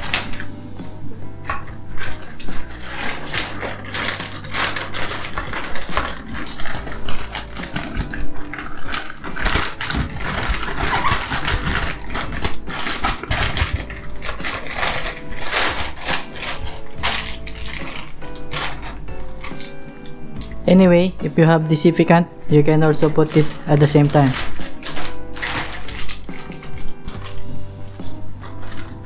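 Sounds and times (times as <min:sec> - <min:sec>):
plastic bag crinkling: 0:00.0 - 0:00.6, 0:01.4 - 0:29.0.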